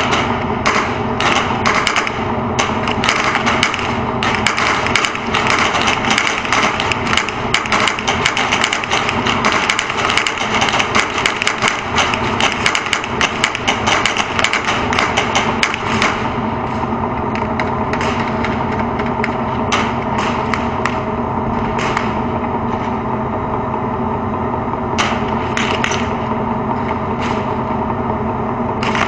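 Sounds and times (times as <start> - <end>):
tank diesel engine running: 0.0 - 29.0.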